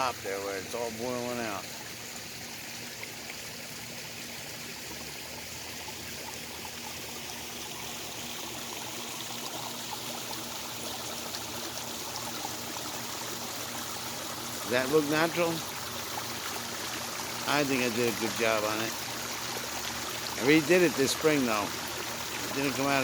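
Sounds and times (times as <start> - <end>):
water running over rocks: 0.0 - 23.0.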